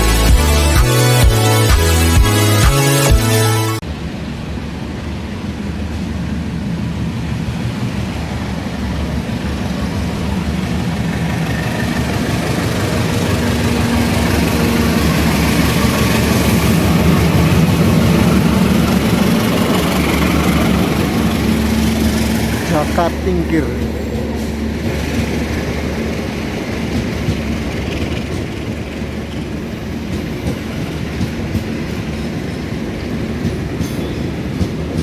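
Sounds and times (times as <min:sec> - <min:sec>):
diesel locomotive engine humming: 0:03.8 - 0:35.0.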